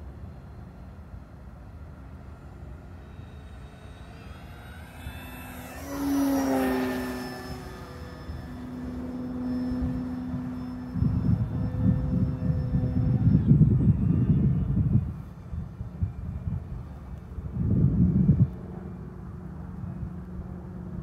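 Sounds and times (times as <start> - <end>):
model plane motor whining: 0.7 - 20.5.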